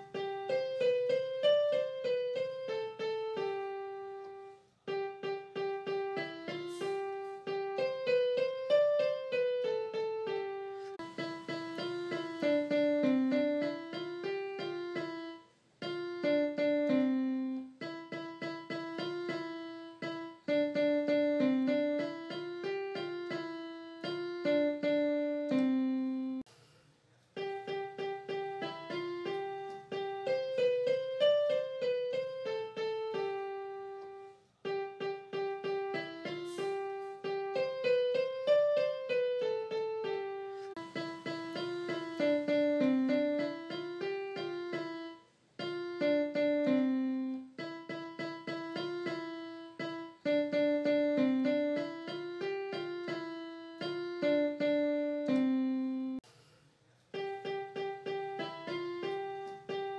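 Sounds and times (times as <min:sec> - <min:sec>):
light piano keyboard tune: 0:00.0 - 0:26.5, 0:27.3 - 0:56.3, 0:57.1 - 0:59.9.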